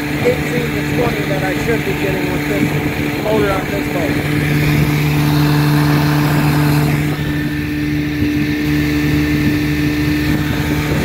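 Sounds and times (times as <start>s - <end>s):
outboard motor running: 0.0s - 11.0s
rushing water: 0.0s - 11.0s
wind: 0.0s - 11.0s.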